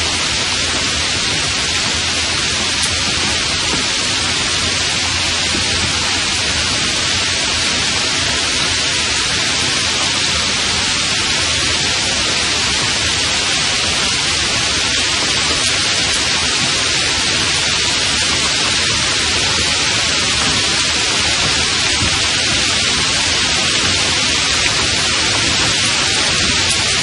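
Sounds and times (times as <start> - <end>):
light rain falling: 0.0 - 27.0.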